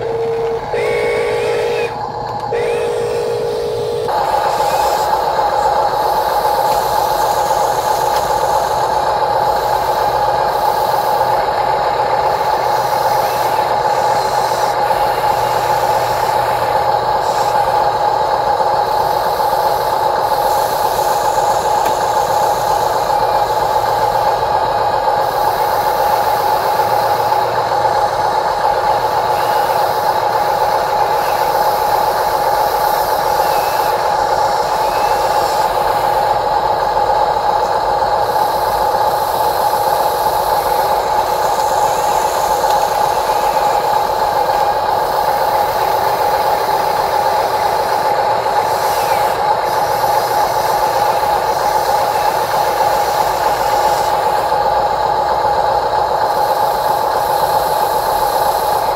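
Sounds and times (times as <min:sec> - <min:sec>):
toy excavator motor whining: 0:00.0 - 0:58.9.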